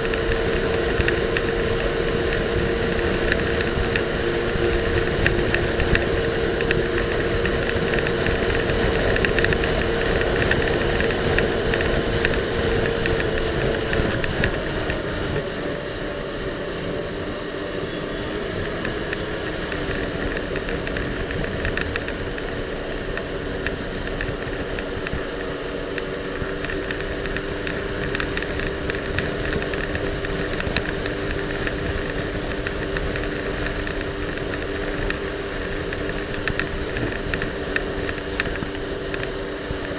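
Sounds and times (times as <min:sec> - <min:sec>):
jet ski engine running: 0:00.0 - 0:39.9
wind: 0:00.0 - 0:39.9.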